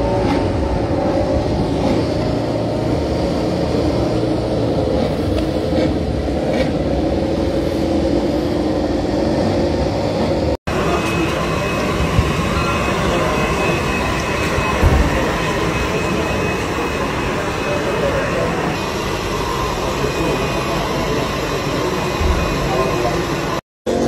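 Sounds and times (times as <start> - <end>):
engines droning: 0.0 - 24.0.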